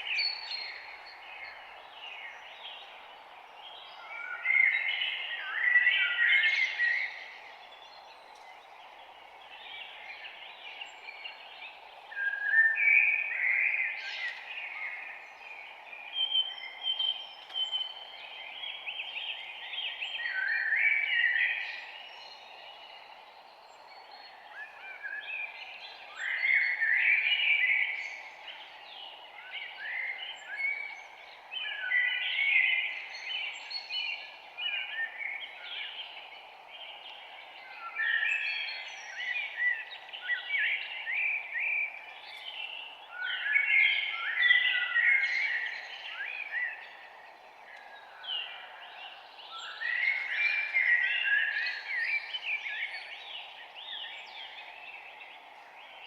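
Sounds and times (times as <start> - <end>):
forest background hiss: 0.0 - 56.0
songbirds singing and chirping: 0.0 - 56.0.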